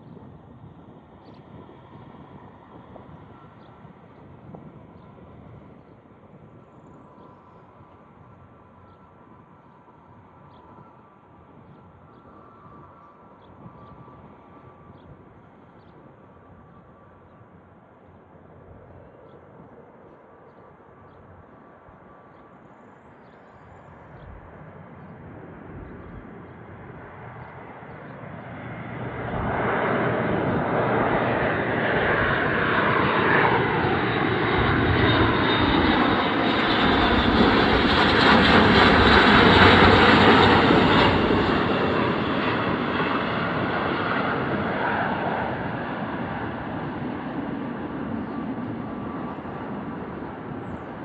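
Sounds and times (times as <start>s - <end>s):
turboprop aircraft passing by: 0.0s - 51.0s.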